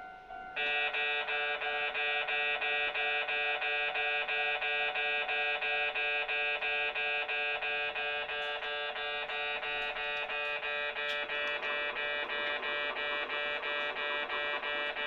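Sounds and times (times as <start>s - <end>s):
level crossing alarm chime: 0.0s - 15.0s.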